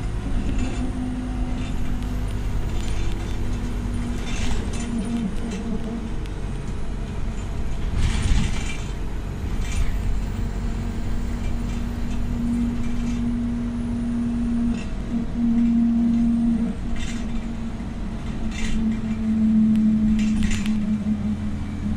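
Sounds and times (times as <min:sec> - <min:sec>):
bus engine running: 0:00.0 - 0:21.9
steady whining tone: 0:00.0 - 0:21.9.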